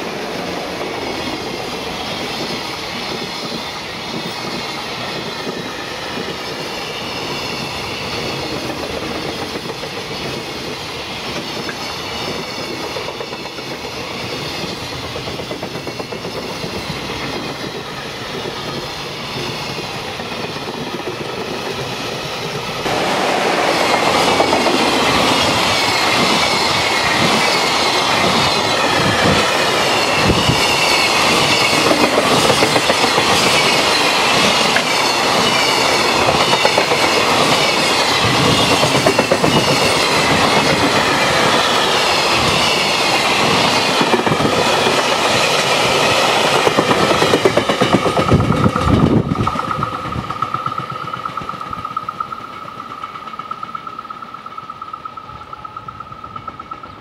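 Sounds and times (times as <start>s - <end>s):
freight train rolling past: 0.0s - 57.0s
wheels clickety-clack on rail joints: 0.0s - 57.0s.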